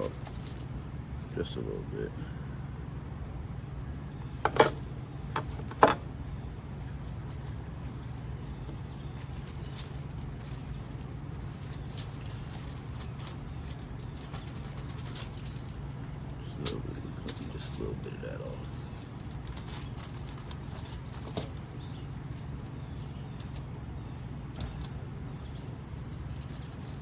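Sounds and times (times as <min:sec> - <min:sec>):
insects singing: 0:00.0 - 0:27.0.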